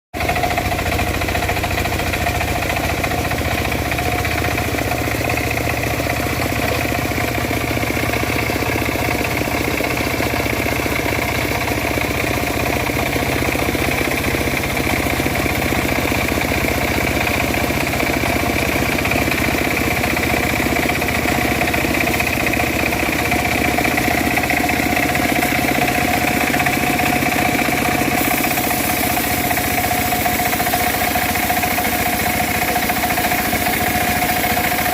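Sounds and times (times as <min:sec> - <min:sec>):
bandsaw mill whining: 0:00.2 - 0:34.9.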